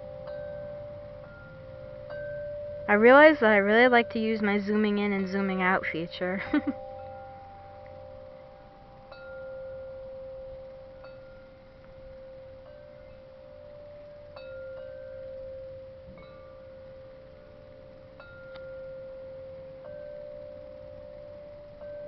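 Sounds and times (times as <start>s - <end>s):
wind chimes ringing: 0.0s - 22.0s.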